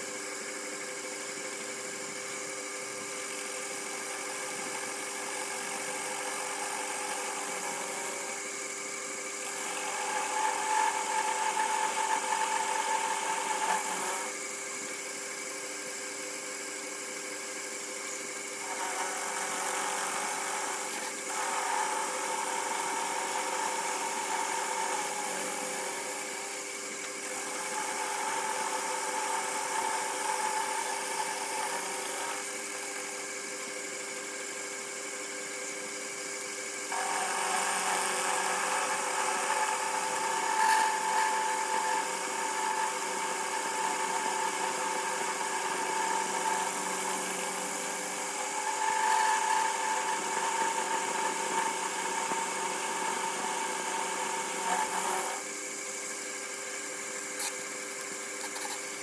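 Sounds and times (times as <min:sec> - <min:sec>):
cutter whirring: 0:00.0 - 0:15.2, 0:16.0 - 0:59.0
lathe machine hum: 0:02.2 - 0:15.0, 0:17.3 - 0:33.3, 0:36.2 - 0:56.2.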